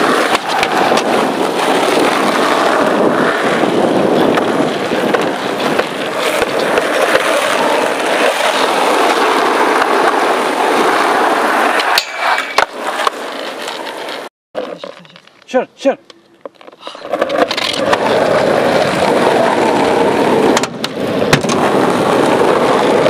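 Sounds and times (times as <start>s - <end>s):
skateboard clack: 0.0s - 14.3s, 16.0s - 23.0s
skateboard wheels rolling on asphalt: 0.0s - 15.5s, 16.1s - 23.0s.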